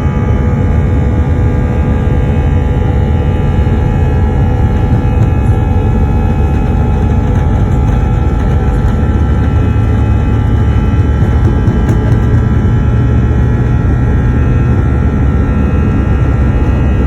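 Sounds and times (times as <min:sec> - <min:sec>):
airplane engines rumbling: 0:00.0 - 0:17.0
engine whine: 0:00.0 - 0:17.0.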